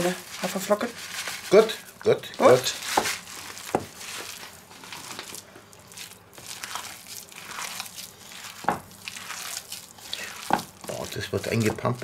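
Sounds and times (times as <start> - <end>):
hands kneading moist mixture: 0.0 - 12.0.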